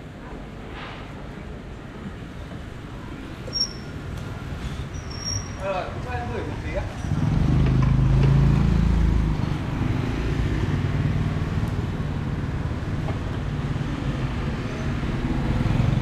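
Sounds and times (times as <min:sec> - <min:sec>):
road traffic noise: 0:00.0 - 0:16.0
vehicle engines humming: 0:02.2 - 0:16.0.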